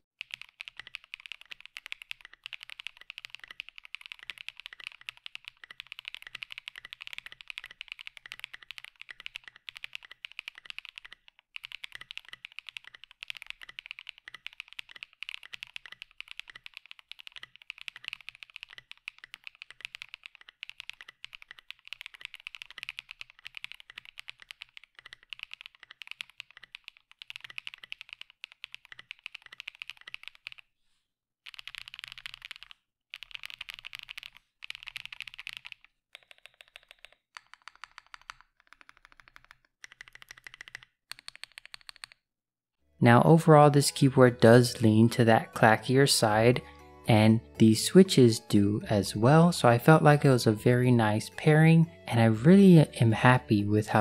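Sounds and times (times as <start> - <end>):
fast mechanical keyboard typing: 0.2 - 30.6, 31.5 - 42.2, 47.4 - 54.0.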